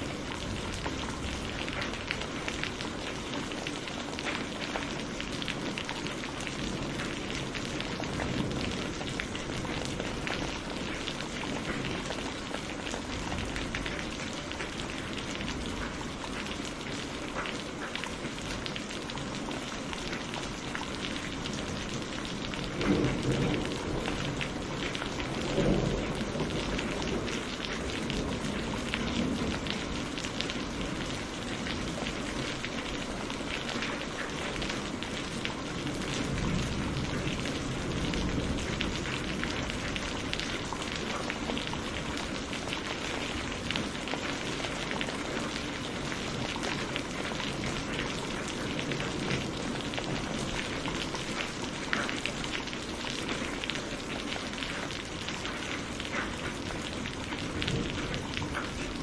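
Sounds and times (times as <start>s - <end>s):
rain falling: 0.0s - 59.0s
raindrop taps: 0.2s - 59.0s.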